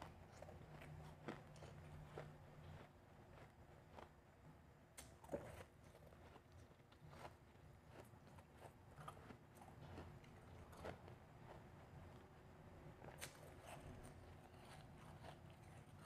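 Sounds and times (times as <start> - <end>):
ice being chewed: 0.0 - 4.1, 5.2 - 12.4, 13.0 - 16.0.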